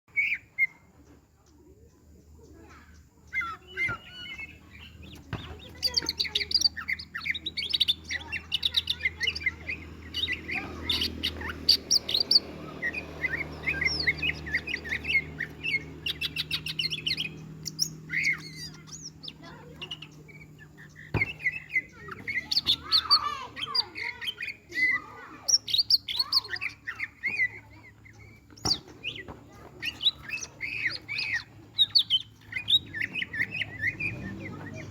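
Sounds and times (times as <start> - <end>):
songbird whistles and chirps: 0.1 - 34.9.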